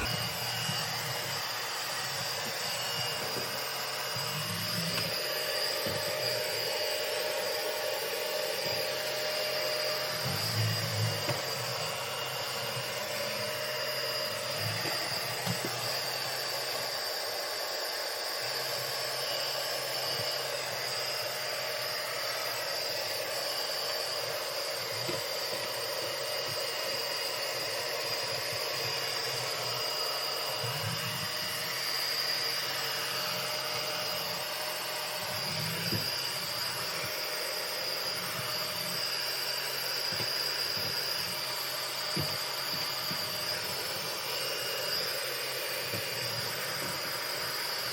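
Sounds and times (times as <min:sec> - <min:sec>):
robot vacuum suction fan whine: 0:00.0 - 0:47.9.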